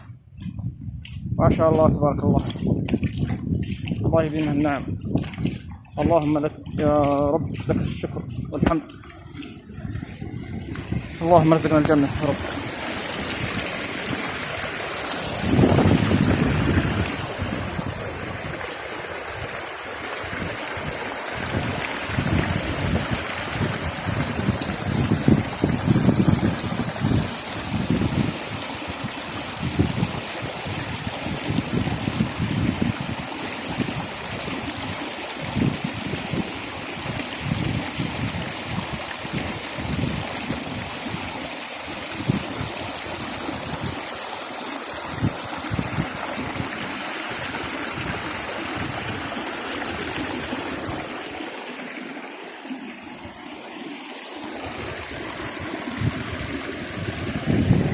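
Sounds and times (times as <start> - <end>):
wind buffeting microphone: 0.0 - 44.2, 44.9 - 51.4, 54.5 - 57.9
stream of water running: 0.0 - 57.9.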